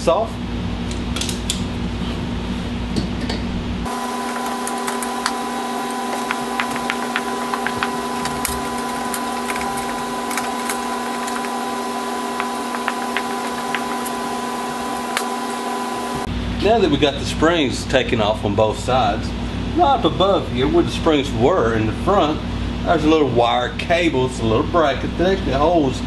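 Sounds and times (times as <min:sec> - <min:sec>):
machine-like hum: 0:00.0 - 0:26.0.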